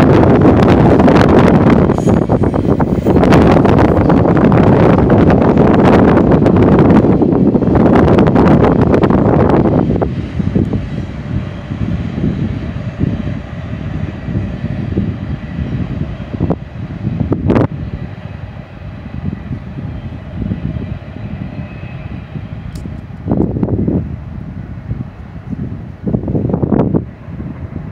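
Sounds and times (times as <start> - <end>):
freight train cars rumbling: 0.0 - 27.9.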